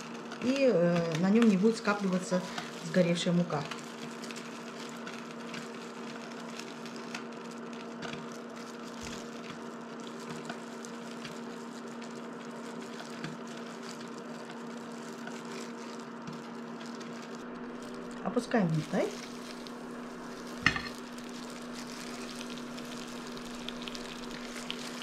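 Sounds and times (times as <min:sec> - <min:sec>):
electric cooktop humming: 0:00.0 - 0:25.0.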